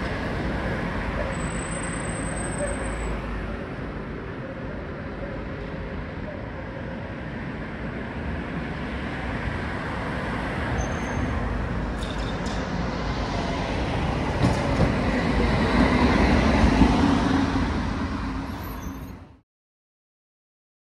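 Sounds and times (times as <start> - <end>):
tram running on rails: 0.0 - 19.4.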